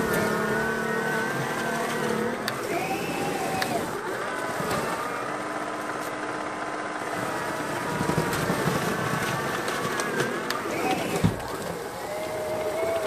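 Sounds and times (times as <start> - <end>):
high-pitched electric motor whine: 0.0 - 13.0
snow rushing from snow blower: 0.0 - 13.0.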